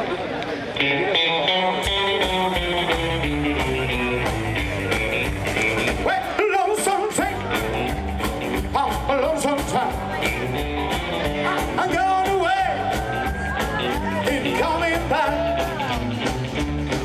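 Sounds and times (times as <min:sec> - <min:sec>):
band playing country rock: 0:00.3 - 0:17.0.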